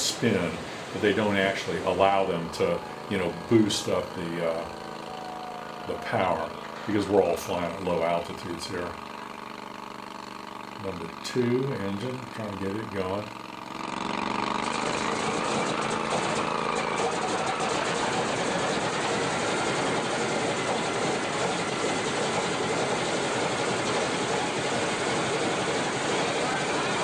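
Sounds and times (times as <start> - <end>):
engine popping: 0.0 - 27.0
radial engine running roughly: 0.0 - 27.0.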